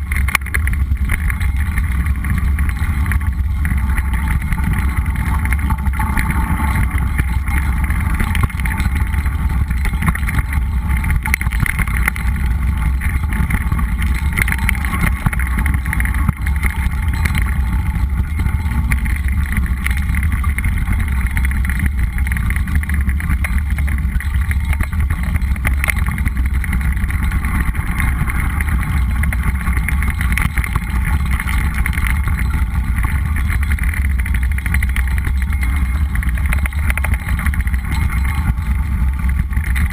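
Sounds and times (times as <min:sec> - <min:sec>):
bike clicks and rattles: 0:00.0 - 0:39.9.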